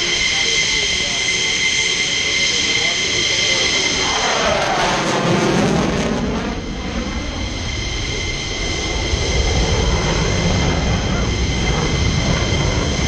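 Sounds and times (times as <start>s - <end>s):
high jet whine: 0.0s - 13.0s
jet aircraft roaring past: 0.0s - 13.0s.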